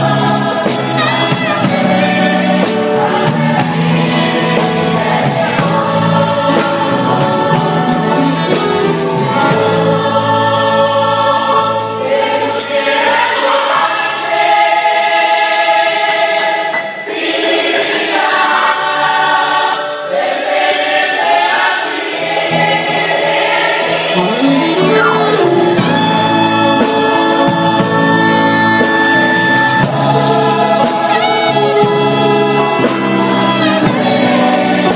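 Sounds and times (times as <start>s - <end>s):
choirs singing through loudspeakers: 0.0s - 34.9s
musical accompaniment: 0.0s - 34.9s.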